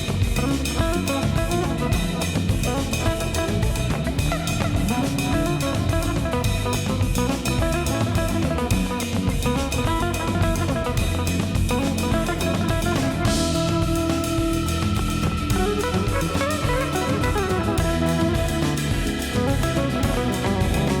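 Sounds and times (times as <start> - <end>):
drum kit beat: 0.0 - 21.0
guitar: 0.0 - 21.0.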